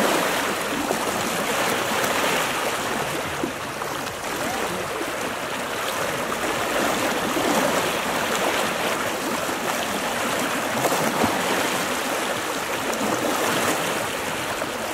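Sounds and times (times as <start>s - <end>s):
floodwater rushing through a channel: 0.0s - 14.9s.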